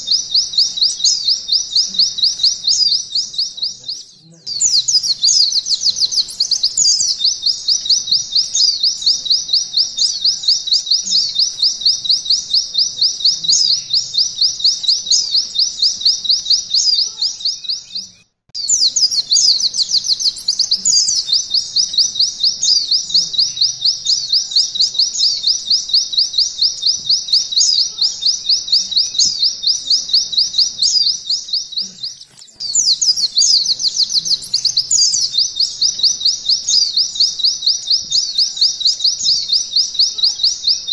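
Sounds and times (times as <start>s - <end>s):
bird singing rapid high notes: 0.0s - 40.9s.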